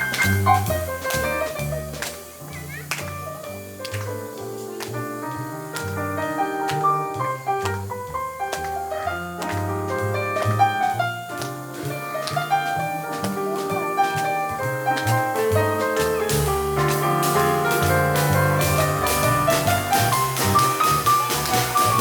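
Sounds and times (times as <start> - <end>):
double bass line: 0.0 - 22.0
piano notes: 0.0 - 22.0.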